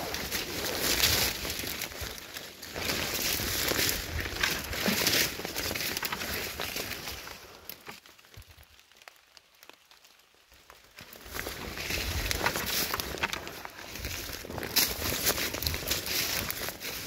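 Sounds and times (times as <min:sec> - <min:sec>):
footsteps rustling through leaf litter: 0:00.0 - 0:17.0.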